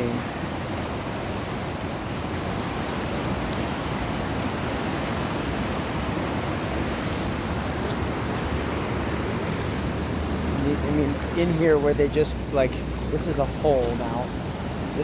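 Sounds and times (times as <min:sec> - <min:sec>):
whitewater rushing: 0:00.0 - 0:15.0.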